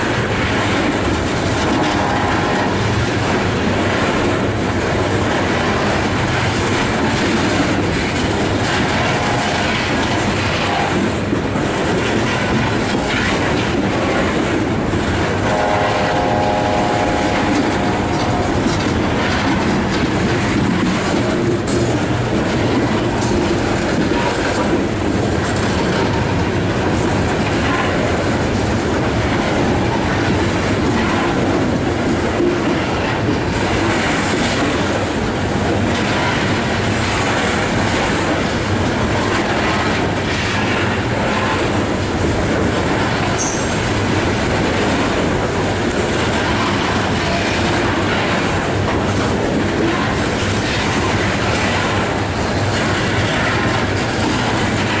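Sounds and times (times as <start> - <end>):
freight train wheels clattering: 0.0 - 55.0.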